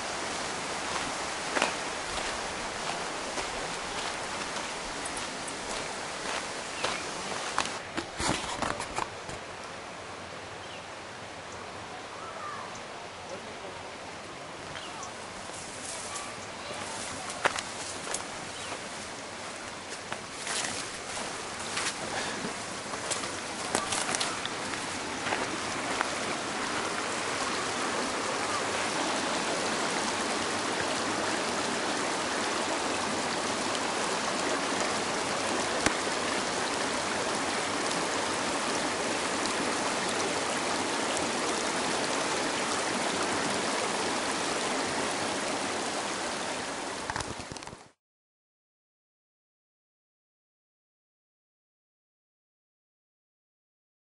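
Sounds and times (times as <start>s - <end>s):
creek running over rocks: 0.0s - 48.0s.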